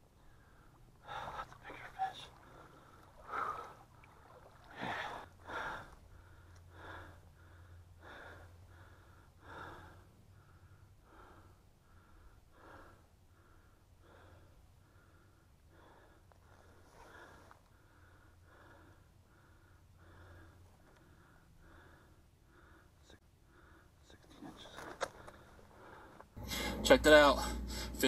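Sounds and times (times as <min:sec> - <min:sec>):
low steady hum: 0:00.0 - 0:28.0
person breathing heavily: 0:00.1 - 0:26.8, 0:27.4 - 0:28.0.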